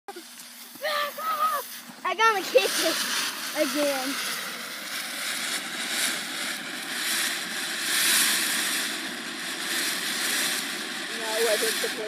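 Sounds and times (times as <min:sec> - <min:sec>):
ground firework hissing: 0:00.1 - 0:12.0.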